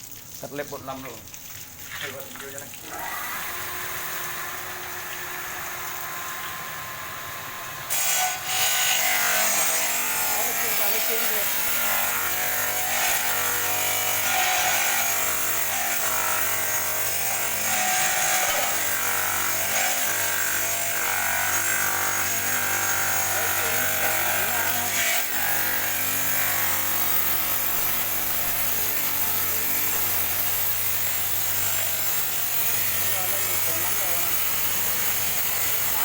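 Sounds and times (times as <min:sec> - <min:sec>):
stone-cutting machine grinding stone: 0:02.1 - 0:36.0.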